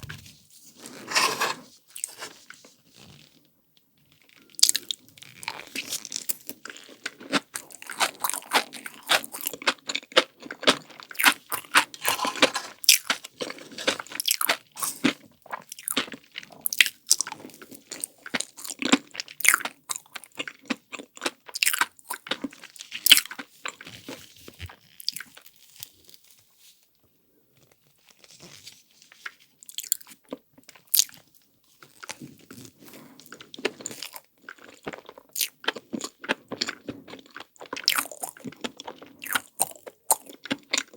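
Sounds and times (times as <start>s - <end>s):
crunching and chewing: 4.1s - 26.2s, 29.2s - 40.9s.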